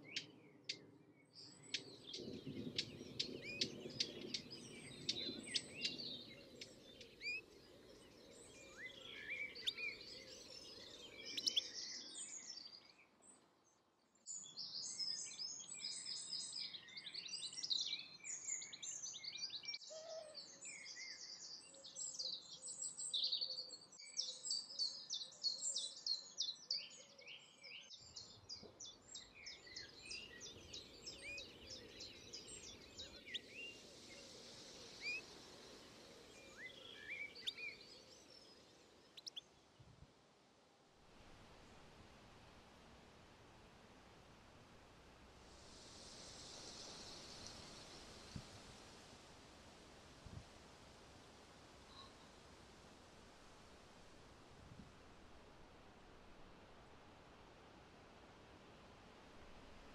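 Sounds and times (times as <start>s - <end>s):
songbirds chirping and trilling: 0.0s - 40.8s, 41.4s - 55.2s.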